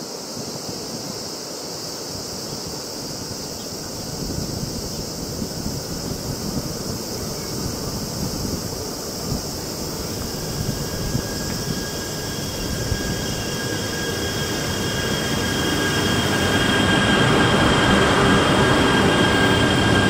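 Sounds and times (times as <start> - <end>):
steady high hiss: 0.0 - 19.5
train rumble approaching: 3.0 - 20.0.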